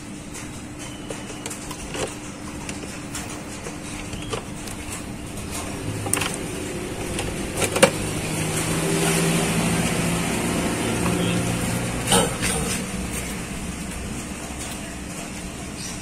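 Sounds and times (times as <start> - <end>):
vehicle engine hum: 1.2 - 16.0.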